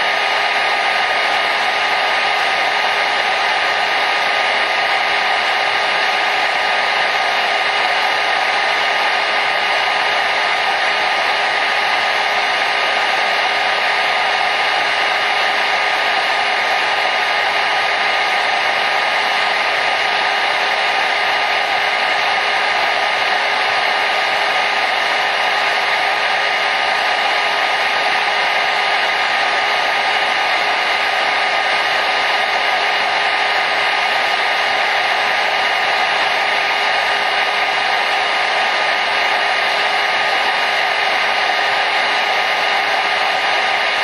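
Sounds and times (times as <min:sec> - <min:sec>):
hair dryer blowing air: 0:00.0 - 0:44.0.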